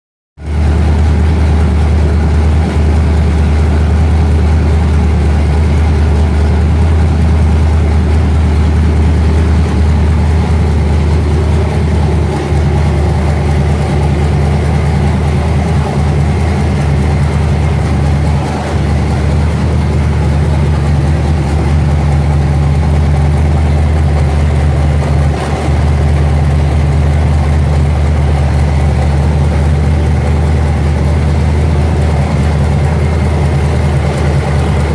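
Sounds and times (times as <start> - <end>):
engine idling: 0.4 - 34.9.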